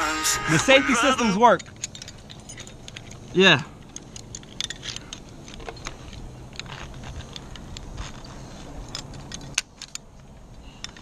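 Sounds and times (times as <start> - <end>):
metal carabiners clinking: 0.6 - 11.0.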